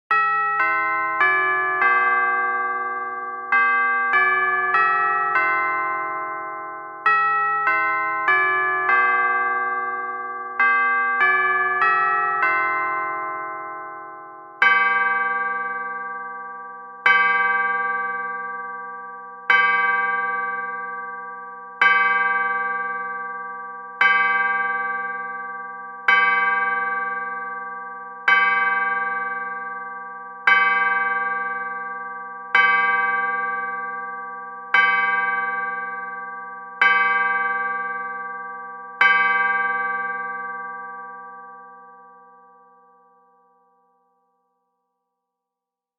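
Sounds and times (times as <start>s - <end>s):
deep clock bell striking: 0.1s - 42.4s
clock chime melody: 0.1s - 43.6s.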